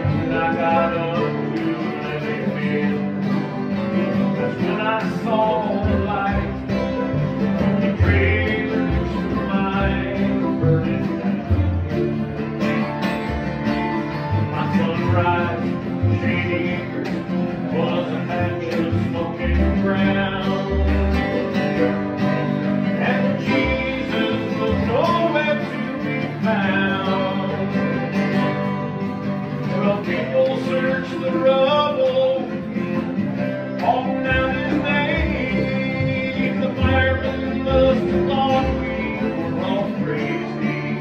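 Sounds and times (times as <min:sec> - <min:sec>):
bluegrass string band playing: 0:00.0 - 0:41.0.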